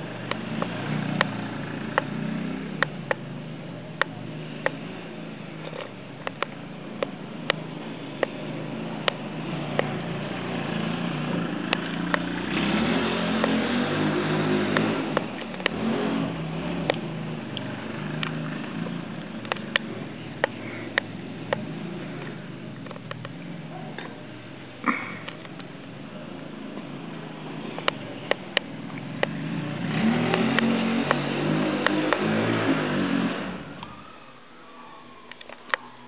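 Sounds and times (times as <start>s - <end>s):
quad engine revving: 0.0s - 34.0s.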